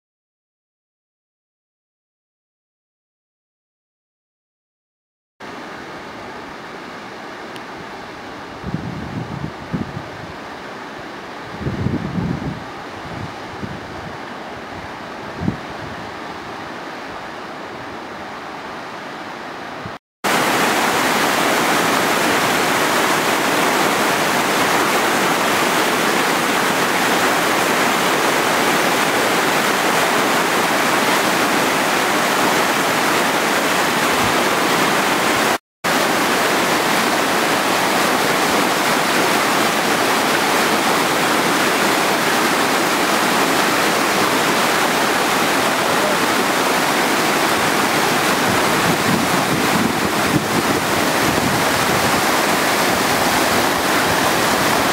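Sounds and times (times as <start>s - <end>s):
waterfall rushing: 5.4s - 54.9s.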